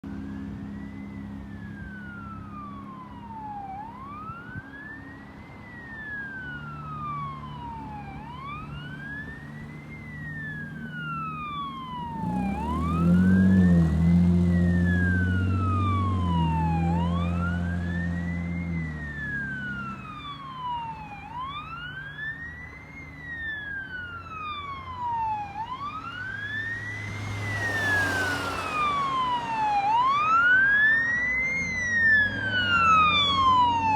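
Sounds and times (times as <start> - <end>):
fire engine siren wailing: 0.0 - 33.9.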